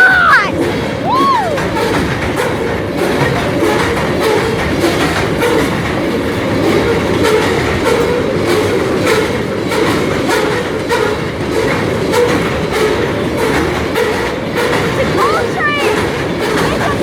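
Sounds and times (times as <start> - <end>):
train wheels rumbling on rail: 0.0 - 17.0
wheels clacking over rail joints: 0.0 - 17.0.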